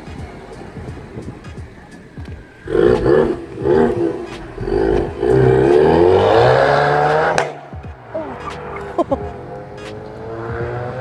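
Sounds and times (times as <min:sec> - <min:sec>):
car engine revving and accelerating: 0:00.0 - 0:11.0.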